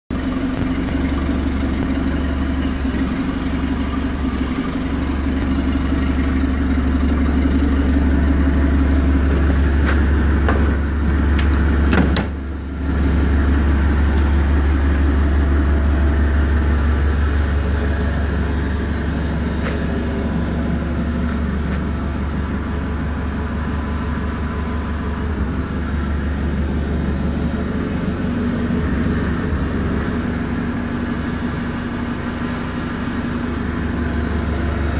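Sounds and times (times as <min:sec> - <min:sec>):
forklift engine idling: 0:00.1 - 0:34.9.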